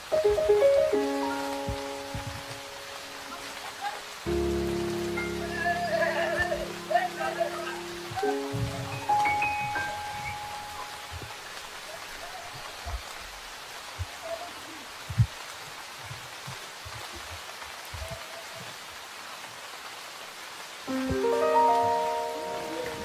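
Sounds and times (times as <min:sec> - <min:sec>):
rain hissing on wet ground: 0:00.0 - 0:23.0.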